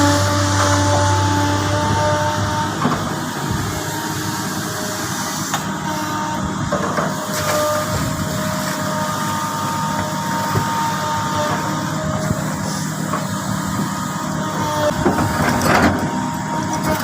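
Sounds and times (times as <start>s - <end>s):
excavator engine drone: 0.0s - 17.0s.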